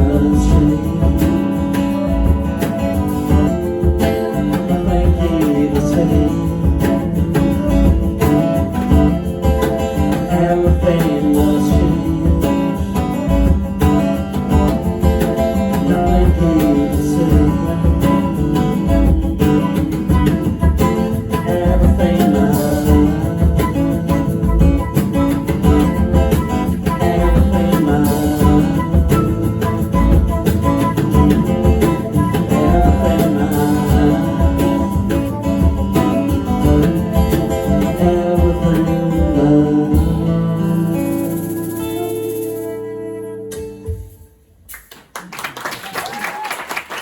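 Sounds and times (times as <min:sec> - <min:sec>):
strummed guitar: 0:00.0 - 0:44.5
band playing: 0:00.0 - 0:44.7.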